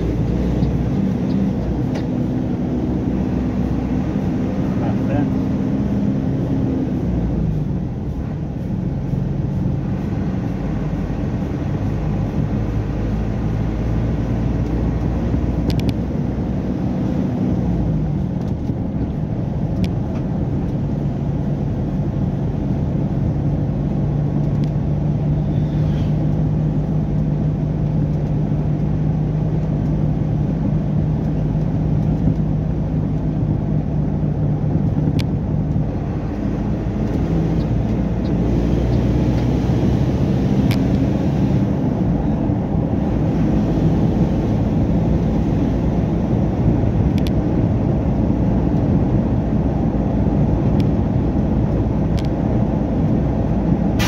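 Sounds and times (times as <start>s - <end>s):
truck diesel engine droning: 0.0s - 54.0s
tyre and road noise: 0.0s - 54.0s.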